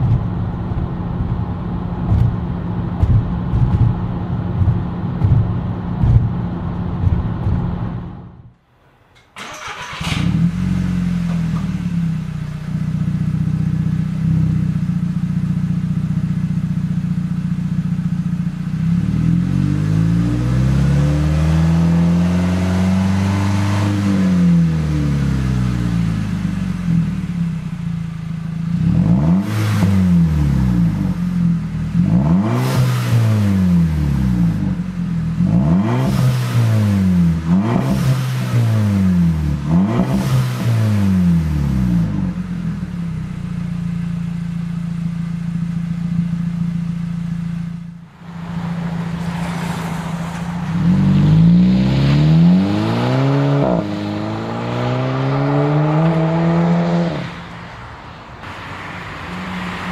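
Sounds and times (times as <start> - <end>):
car engine idling and revving: 0.0 - 8.6, 9.4 - 59.9.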